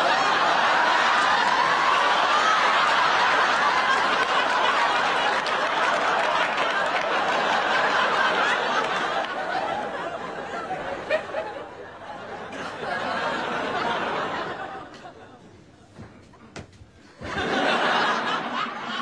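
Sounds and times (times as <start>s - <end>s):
crowd laughing: 0.0s - 16.0s, 17.0s - 19.0s.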